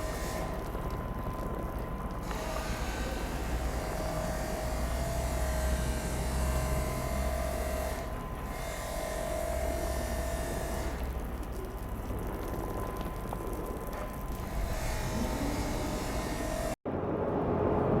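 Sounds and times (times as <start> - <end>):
electric motors humming and whining: 0.0 - 16.8.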